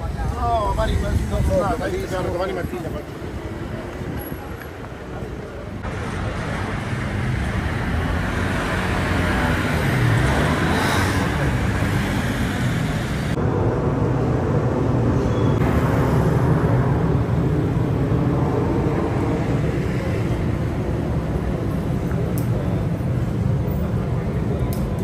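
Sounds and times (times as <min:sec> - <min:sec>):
cars and scooters passing: 0:00.0 - 0:25.0.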